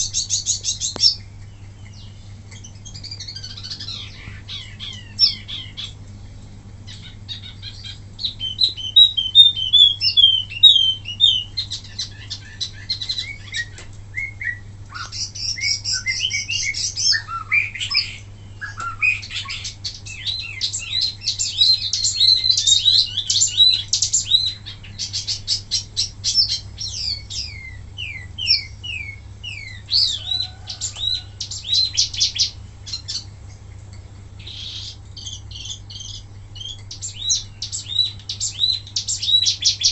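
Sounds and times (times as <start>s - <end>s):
low electrical hum: 0.0s - 39.9s
songbird singing chirps and trills: 0.0s - 39.9s.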